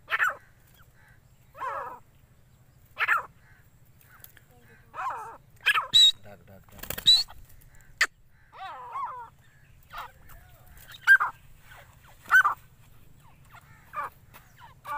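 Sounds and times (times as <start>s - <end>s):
young francolins calling harshly: 0.0s - 2.1s, 2.8s - 14.9s.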